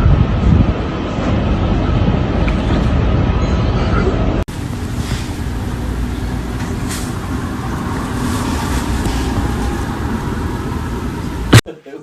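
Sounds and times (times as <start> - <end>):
low vehicle rumble: 0.0 - 11.6.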